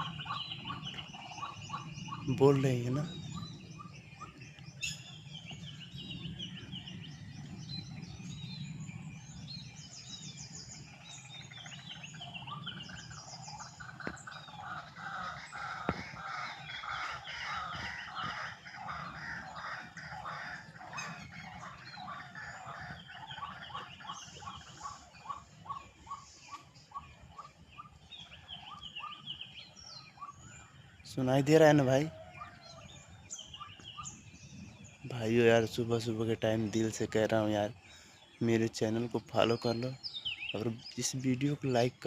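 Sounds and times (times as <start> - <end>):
wild birds chirping: 0.0 - 42.0.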